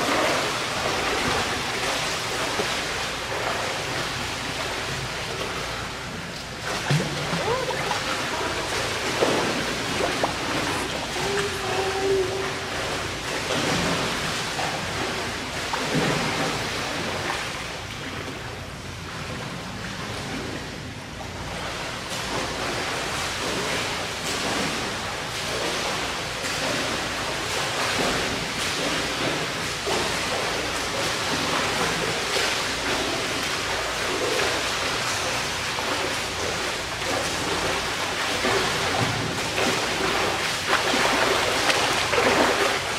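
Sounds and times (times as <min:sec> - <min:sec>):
water splashing from swimmer: 0:00.0 - 0:42.9.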